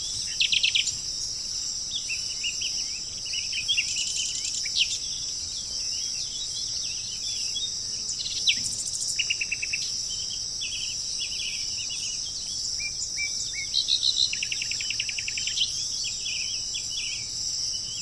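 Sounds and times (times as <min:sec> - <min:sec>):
insects droning: 0:00.0 - 0:18.0
songbirds chirping and trilling: 0:00.0 - 0:18.0.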